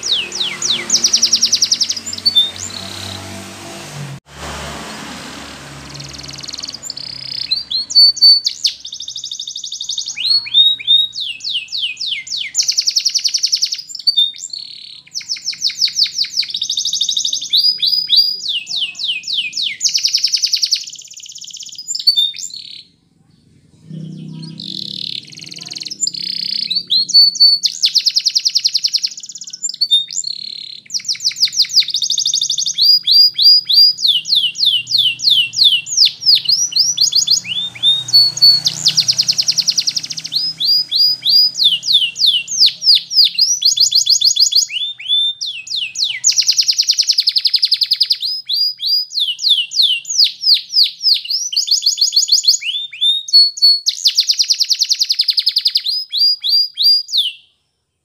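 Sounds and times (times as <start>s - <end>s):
canary singing: 0.0s - 4.0s, 4.6s - 57.6s.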